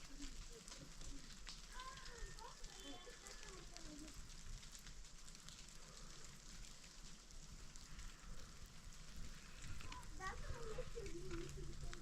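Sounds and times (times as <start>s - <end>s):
light rain pattering: 0.0s - 12.0s
small ticks: 0.0s - 12.0s.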